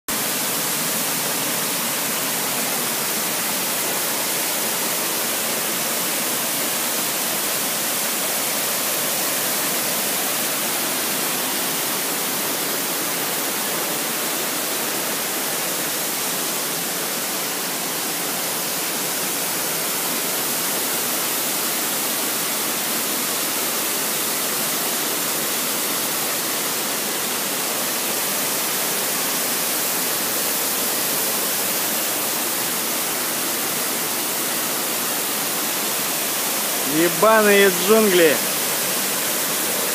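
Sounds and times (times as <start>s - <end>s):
waterfall rushing hiss: 0.1s - 39.9s.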